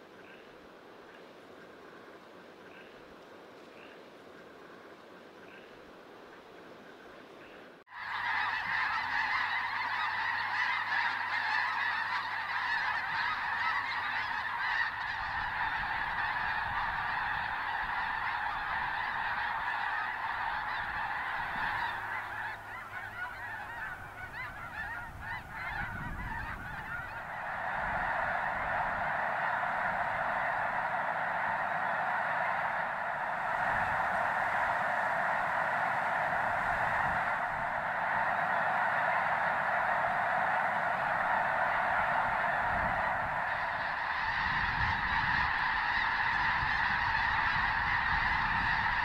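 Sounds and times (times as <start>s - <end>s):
flock of geese honking: 0.0s - 0.5s, 2.6s - 3.0s, 7.4s - 49.0s.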